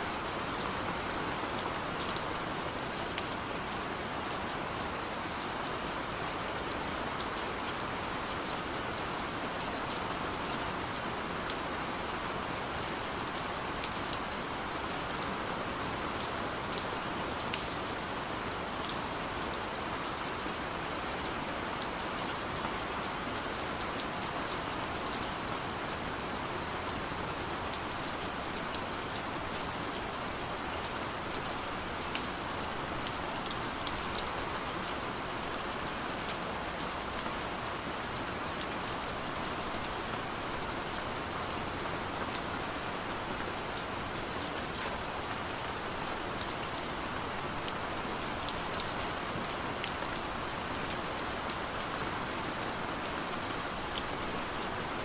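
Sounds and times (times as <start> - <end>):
steady gentle rain: 0.0 - 55.0.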